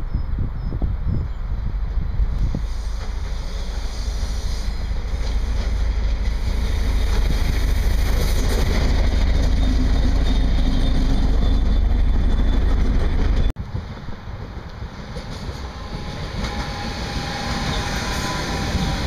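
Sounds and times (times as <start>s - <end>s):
rumble on the rails: 0.0s - 19.0s
locomotive engine drone: 1.0s - 19.0s.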